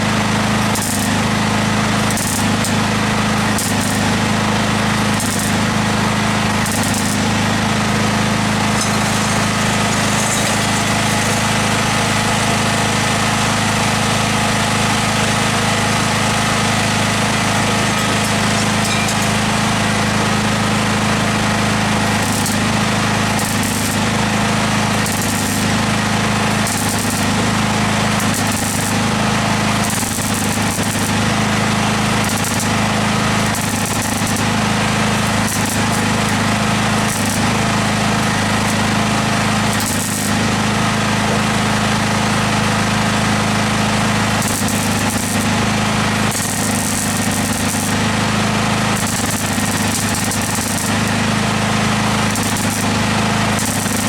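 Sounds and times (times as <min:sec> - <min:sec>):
welder crackling on steel: 0:00.0 - 0:54.0.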